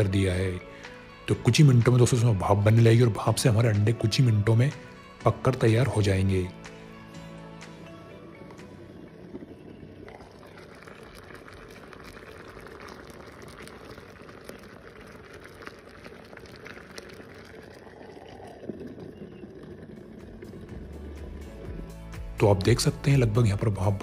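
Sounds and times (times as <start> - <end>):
water boiling with crackles: 0.0 - 24.0.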